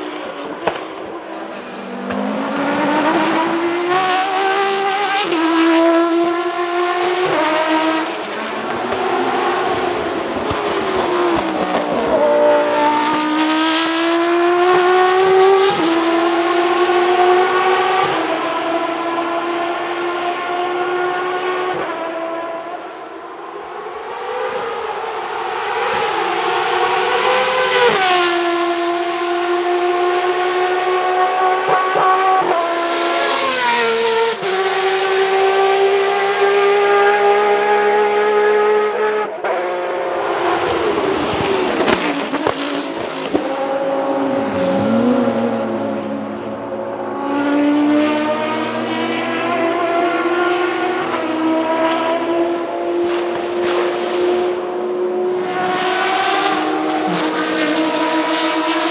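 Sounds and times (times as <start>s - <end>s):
racing engine at high revs: 0.0s - 58.9s.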